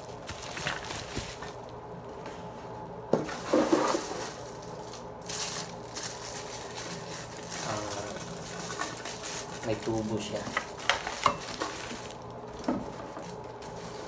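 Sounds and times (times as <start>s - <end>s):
plastic packaging crinkling: 0.0s - 1.9s, 3.3s - 14.0s.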